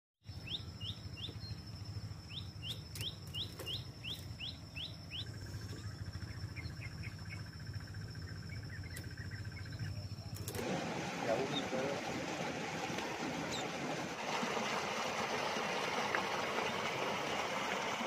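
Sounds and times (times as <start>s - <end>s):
birds chirping: 0.2s - 10.6s, 11.2s - 14.2s, 15.2s - 18.0s
low steady rumble: 0.3s - 18.0s.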